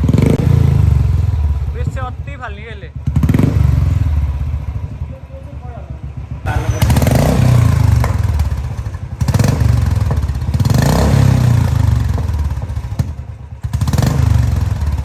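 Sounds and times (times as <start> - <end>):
motorcycle engine thumping: 0.0 - 15.0.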